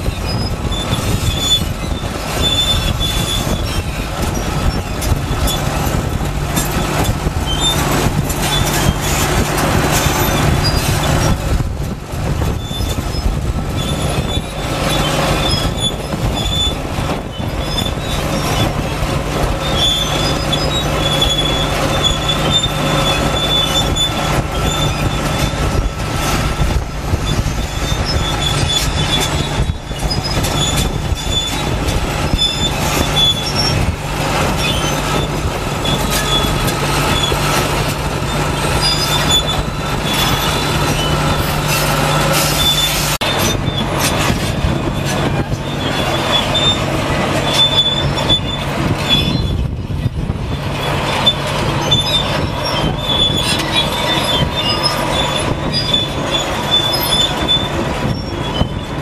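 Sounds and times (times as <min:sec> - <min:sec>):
diesel engine under load: 0:00.0 - 0:59.0
high metallic squeal: 0:00.0 - 0:59.0.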